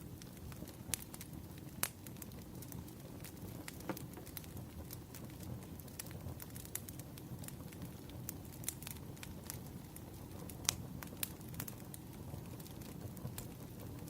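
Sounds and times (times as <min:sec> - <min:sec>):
firewood crackling and popping: 0:00.0 - 0:14.0
low rush of flame: 0:00.0 - 0:14.0.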